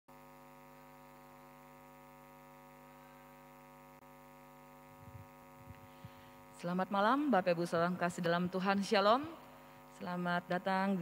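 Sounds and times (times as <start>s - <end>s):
faint electrical hum: 0.1s - 11.0s.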